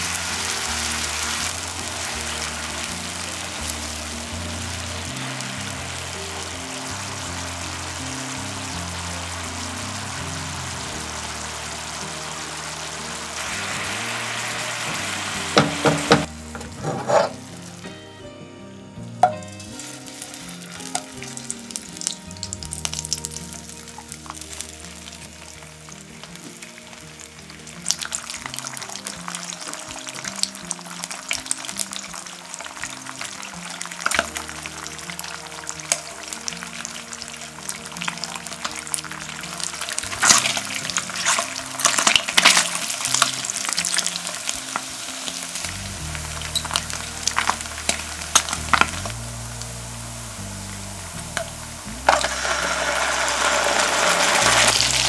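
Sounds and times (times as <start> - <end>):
onions bubbling in a frying pan: 0.0 - 17.9, 19.2 - 55.0
meat sizzling and crackling: 0.0 - 18.0, 19.2 - 55.0
light background music: 0.0 - 55.0.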